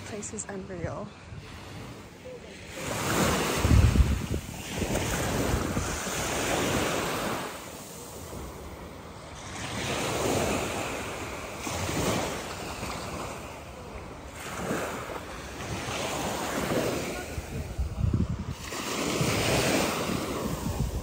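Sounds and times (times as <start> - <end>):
small waves washing on sand: 0.0 - 21.0
wind on microphone: 2.7 - 8.8, 9.5 - 21.0.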